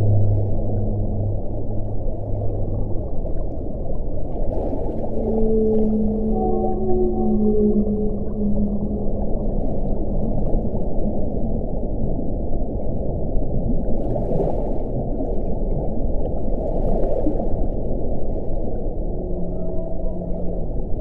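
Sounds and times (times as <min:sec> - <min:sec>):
faint howling wind tone: 0:00.0 - 0:21.0.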